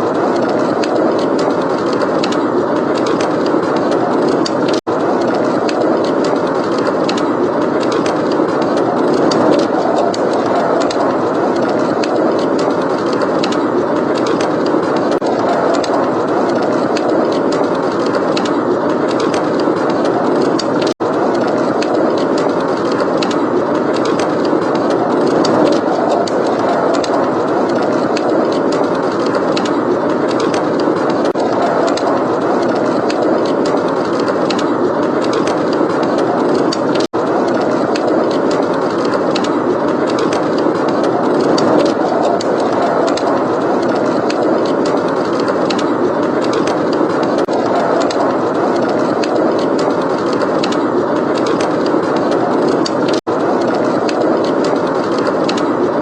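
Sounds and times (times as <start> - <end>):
blizzard wind blowing: 0.0 - 56.0.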